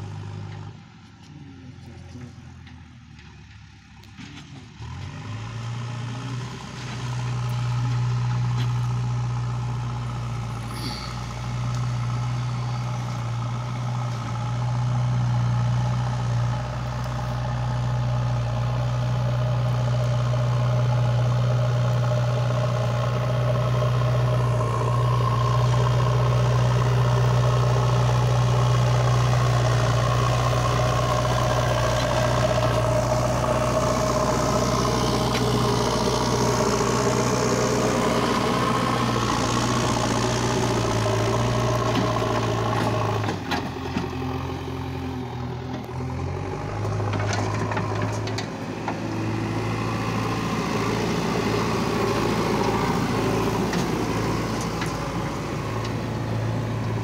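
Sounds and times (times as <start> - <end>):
diesel engine droning under load: 0.0 - 57.0.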